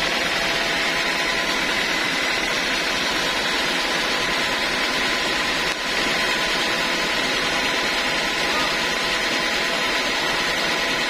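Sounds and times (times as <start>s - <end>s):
band sawmill running: 0.0s - 11.0s
high whine of spinning blade: 0.0s - 11.0s.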